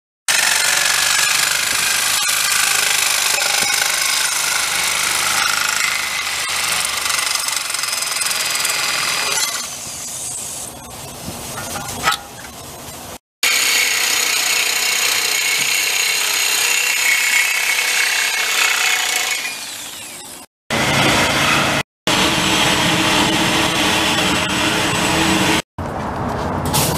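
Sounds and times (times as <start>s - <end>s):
power tool grinding metal: 0.3s - 9.8s, 13.4s - 25.6s.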